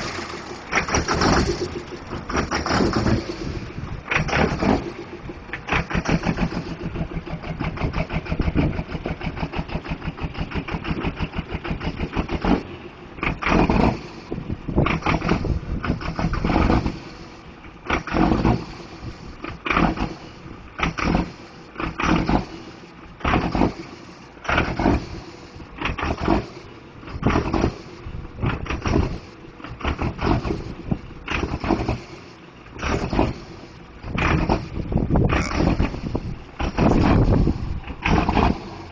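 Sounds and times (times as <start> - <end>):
diesel truck engine loping: 0.0 - 38.9.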